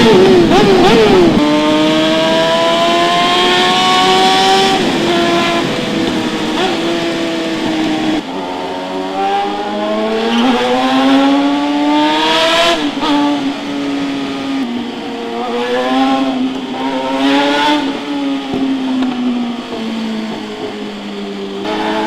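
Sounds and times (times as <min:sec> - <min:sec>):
sportbike engine revving: 0:00.0 - 0:22.0.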